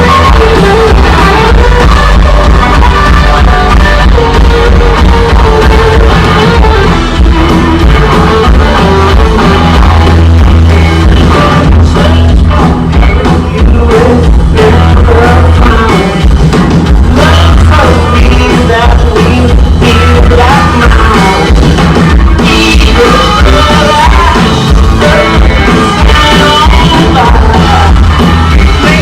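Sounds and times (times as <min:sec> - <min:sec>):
person singing lead vocal: 0:00.0 - 0:29.0
rock band playing live: 0:00.0 - 0:29.0.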